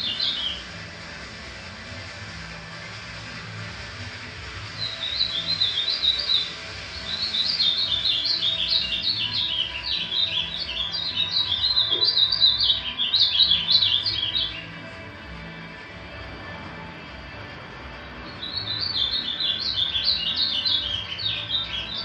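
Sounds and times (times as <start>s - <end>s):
songbird chirping: 0.0s - 0.7s, 4.6s - 22.0s.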